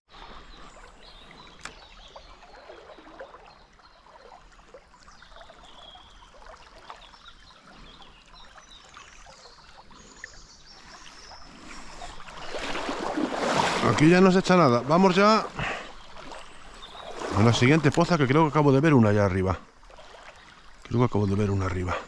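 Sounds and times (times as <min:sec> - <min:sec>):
river water trickling: 0:00.1 - 0:22.0
small splashes: 0:00.1 - 0:22.0.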